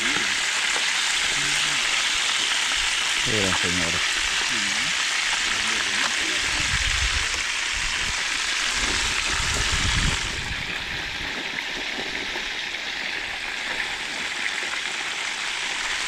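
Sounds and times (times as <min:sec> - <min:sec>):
peppers sizzling in hot oil: 0:00.0 - 0:16.0.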